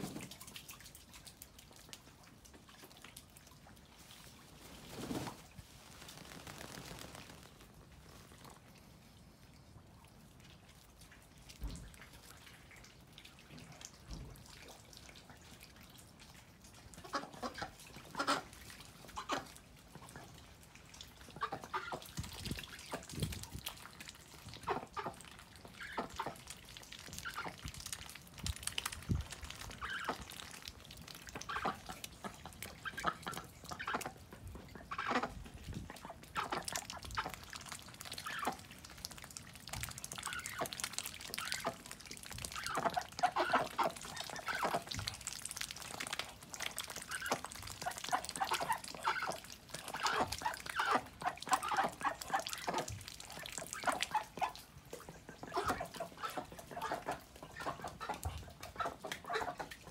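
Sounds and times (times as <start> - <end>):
ducks splashing in puddles: 0.0 - 59.9.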